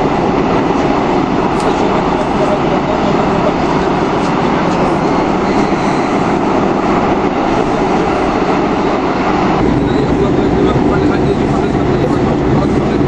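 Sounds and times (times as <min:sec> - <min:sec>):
train car running: 0:00.0 - 0:13.0.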